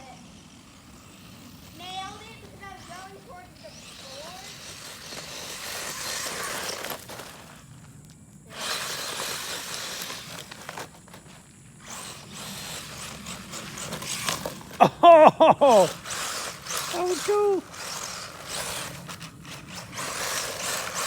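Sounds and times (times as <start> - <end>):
toy truck tyres churning gravel: 0.0 - 21.0.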